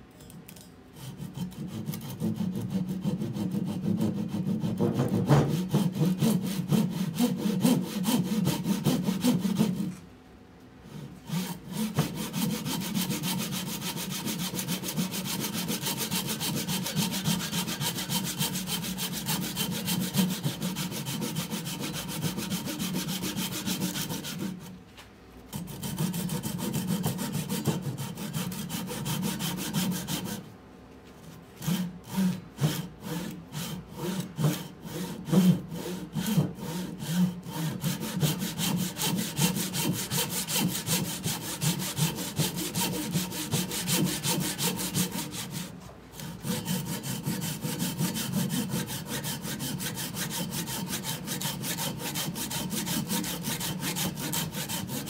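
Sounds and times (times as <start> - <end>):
hand saw cutting wood: 1.0 - 10.0, 11.0 - 24.7, 25.5 - 30.4, 31.6 - 55.0.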